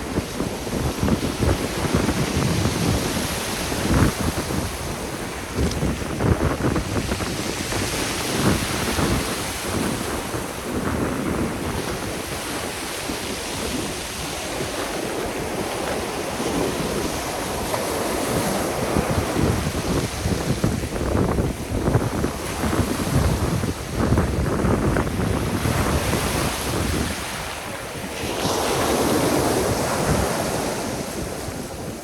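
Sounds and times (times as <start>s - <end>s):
sea surf washing on shore: 0.0s - 32.0s
wind buffeting microphone: 0.0s - 32.0s.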